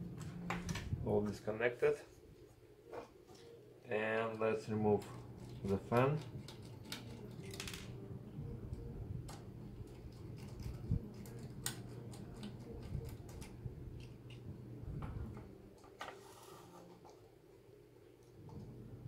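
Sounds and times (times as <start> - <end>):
steady low hum: 0.0 - 15.9, 16.7 - 19.0.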